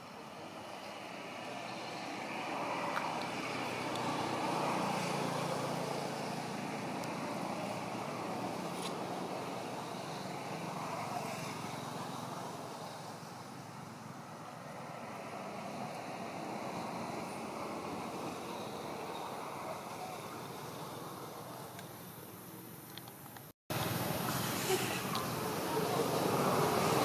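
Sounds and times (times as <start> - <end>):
distant motor vehicle hum: 0.0 - 27.0.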